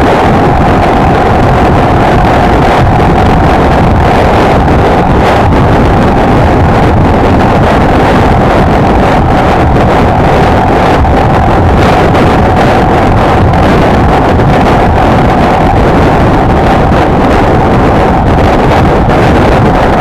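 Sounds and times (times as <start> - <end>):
motorcycle engine droning: 0.0 - 20.0
wind rushing over microphone: 0.0 - 20.0.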